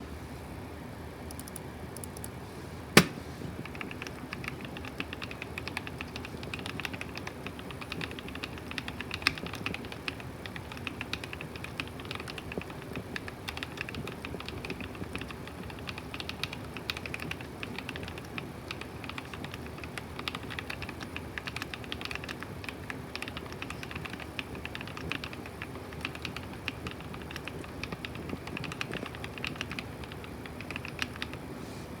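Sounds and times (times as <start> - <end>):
mechanical keyboard typing: 1.3 - 2.3, 3.0 - 31.4.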